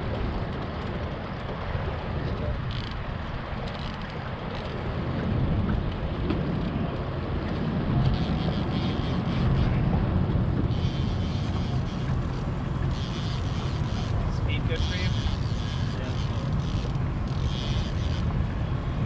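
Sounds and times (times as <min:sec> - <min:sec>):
boat motor running: 0:00.0 - 0:19.0
wind buffeting microphone: 0:00.0 - 0:19.0.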